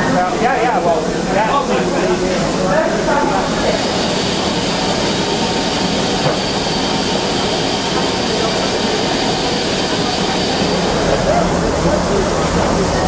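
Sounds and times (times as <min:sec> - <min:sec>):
steam hissing from locomotive: 0:01.0 - 0:13.0.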